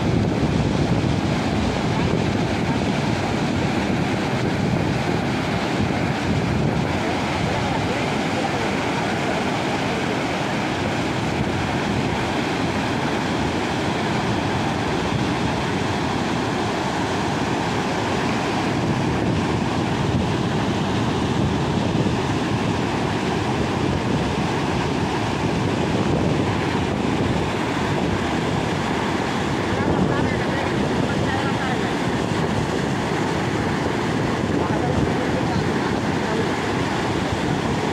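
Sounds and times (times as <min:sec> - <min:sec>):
river rapids roaring: 0:00.0 - 0:37.9.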